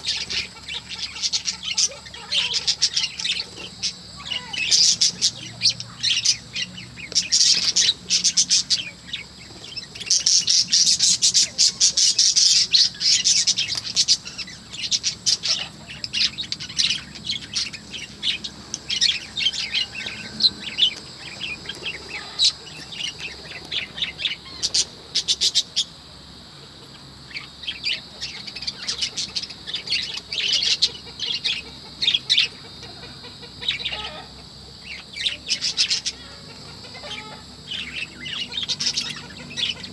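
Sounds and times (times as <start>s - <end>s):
budgerigars chirping and squawking: 0.0s - 25.9s, 26.8s - 39.9s.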